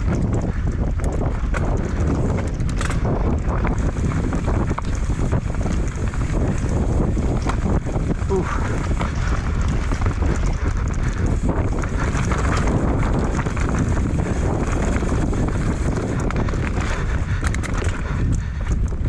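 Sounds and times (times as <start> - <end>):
bike rattling over rough trail: 0.0 - 19.0
wind on microphone: 0.0 - 19.0.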